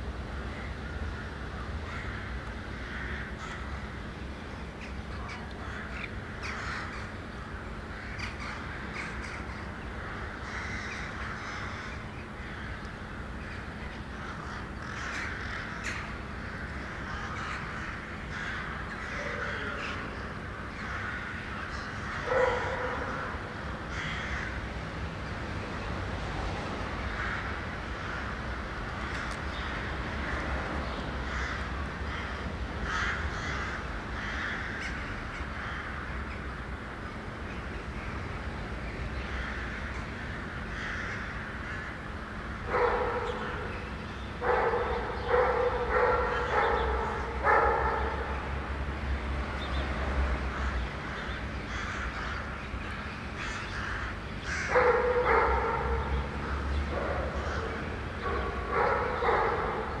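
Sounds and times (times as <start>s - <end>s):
wind and road noise: 0.0s - 60.0s.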